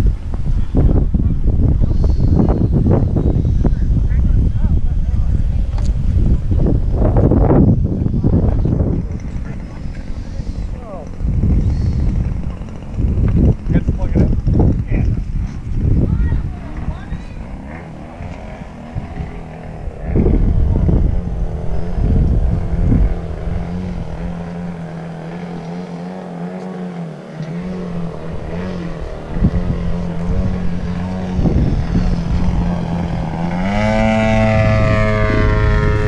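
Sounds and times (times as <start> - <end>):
model airplane engine droning: 0.2 - 36.0.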